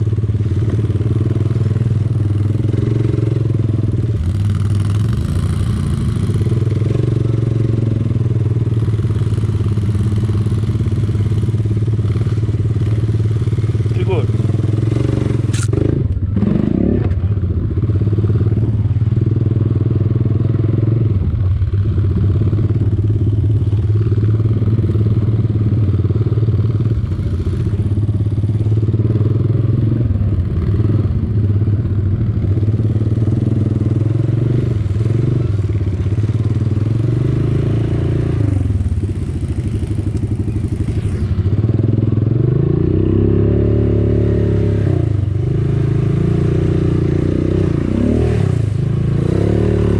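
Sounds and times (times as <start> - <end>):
quad bike engine revving: 0.0 - 49.9.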